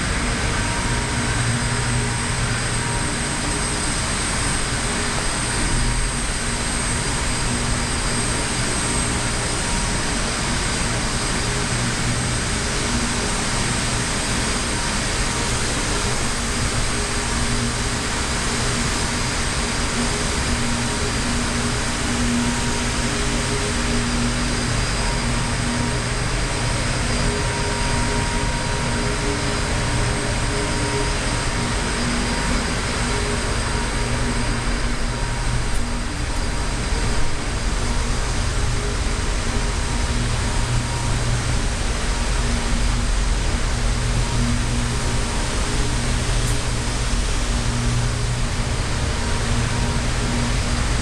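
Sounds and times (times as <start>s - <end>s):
mechanical drone with hum: 0.0s - 51.0s.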